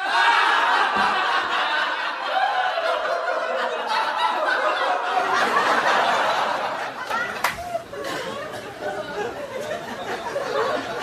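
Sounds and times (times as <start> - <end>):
crowd laughing: 0.0 - 11.0.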